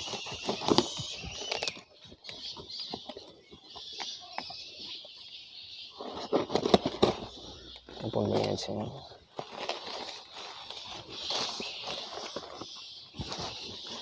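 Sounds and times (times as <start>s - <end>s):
paper and cardboard crinkling: 0.0s - 4.6s, 6.0s - 14.0s.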